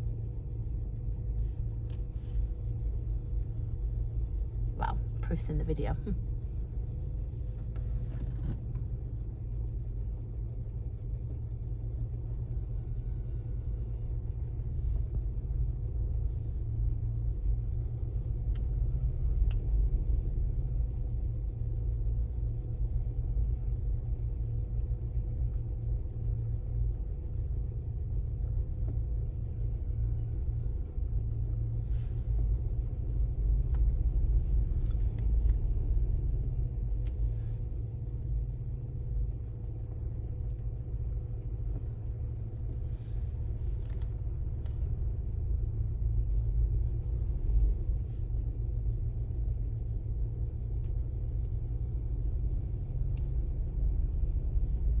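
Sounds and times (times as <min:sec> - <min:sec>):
faint constant hum: 0:00.0 - 0:55.0
low rumble: 0:00.0 - 0:55.0.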